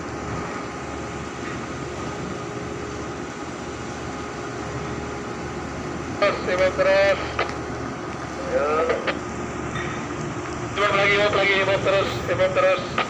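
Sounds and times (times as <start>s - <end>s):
faint constant hum: 0.0s - 13.0s
ship engine rumble: 0.0s - 13.0s.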